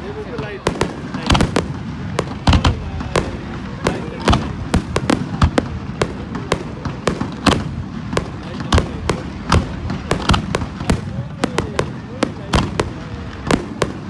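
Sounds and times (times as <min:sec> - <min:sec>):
fireworks bursting with bangs: 0:00.0 - 0:14.0.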